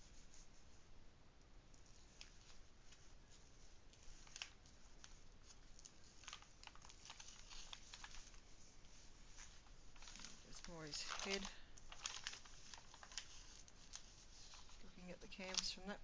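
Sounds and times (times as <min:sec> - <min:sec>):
plastic film crinkling: 0:01.8 - 0:16.0.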